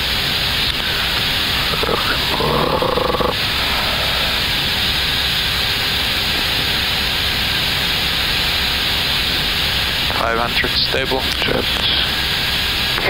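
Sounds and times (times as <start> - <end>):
cockpit airflow hiss: 0.0 - 13.0.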